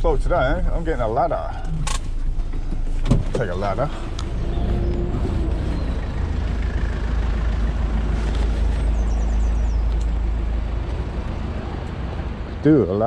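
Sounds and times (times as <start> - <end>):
van engine and road rumble: 0.0 - 13.0.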